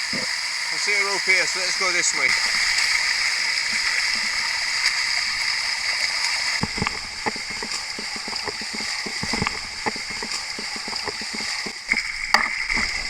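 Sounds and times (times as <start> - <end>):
sharp splashes and clicks: 0.0 - 13.0
waterfall rushing: 0.0 - 13.0.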